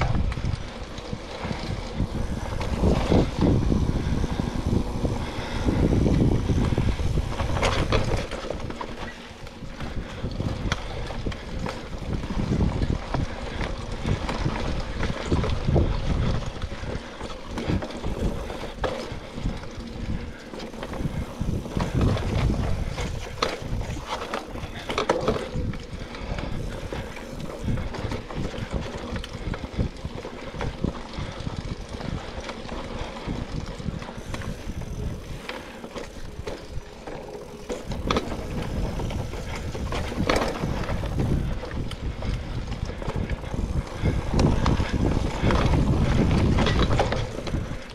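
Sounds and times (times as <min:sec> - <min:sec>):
bike rattling over bumps: 0:00.0 - 0:47.9
bike tyres on dirt: 0:00.0 - 0:47.9
wind buffeting microphone: 0:00.0 - 0:47.9.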